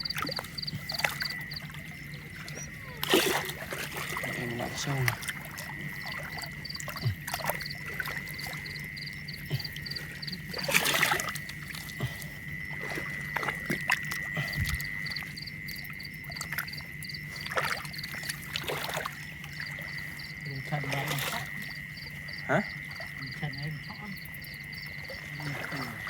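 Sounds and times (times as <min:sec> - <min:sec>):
frogs and insects chorus: 0:00.0 - 0:26.0
water splashing: 0:00.0 - 0:26.0.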